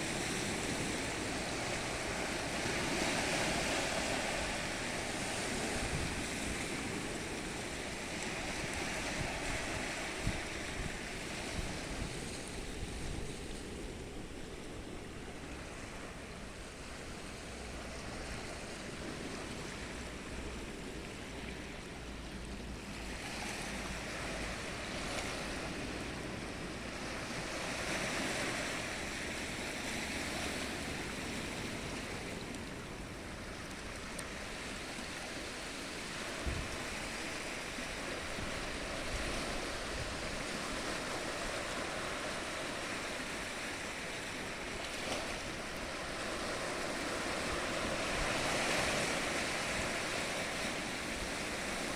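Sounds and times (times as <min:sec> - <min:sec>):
sea waves breaking on shore: 0:00.0 - 0:51.9.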